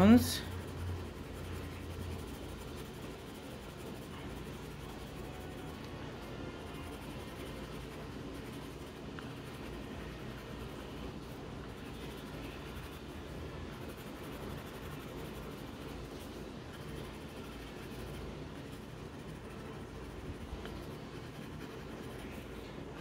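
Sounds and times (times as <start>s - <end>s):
pencil scratching on paper: 0.0s - 23.0s.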